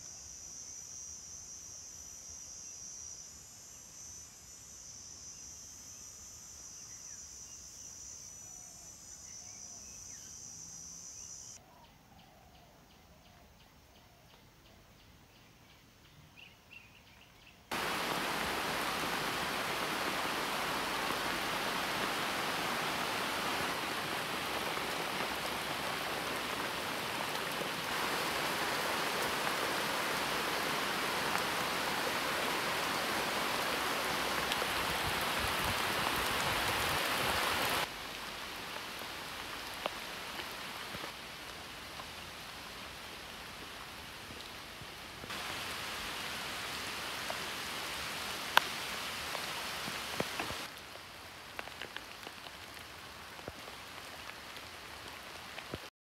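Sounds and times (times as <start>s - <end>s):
steady rain hiss: 0.0s - 11.6s, 16.4s - 55.9s.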